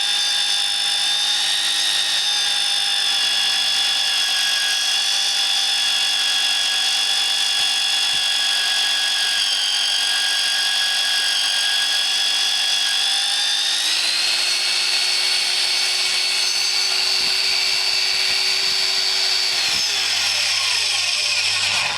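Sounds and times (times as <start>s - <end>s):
drill motor whine: 0.0s - 21.9s.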